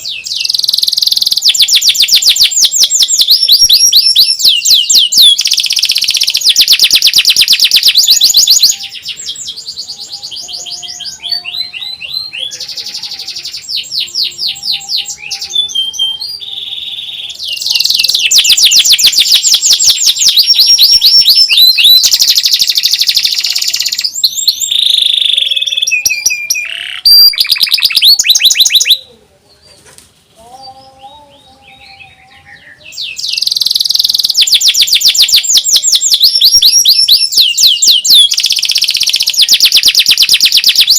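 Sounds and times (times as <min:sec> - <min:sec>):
canary singing fast trills: 0:00.0 - 0:29.1, 0:30.6 - 0:40.9.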